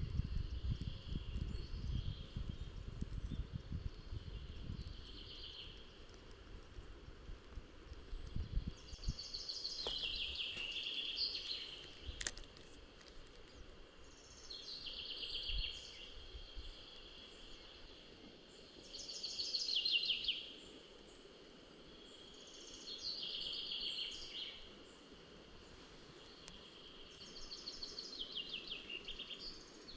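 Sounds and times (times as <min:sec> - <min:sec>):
songbird singing: 0:00.0 - 0:29.9.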